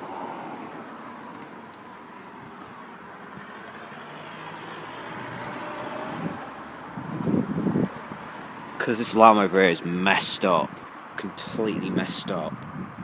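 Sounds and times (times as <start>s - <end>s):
vehicle rumble: 0.0s - 11.6s.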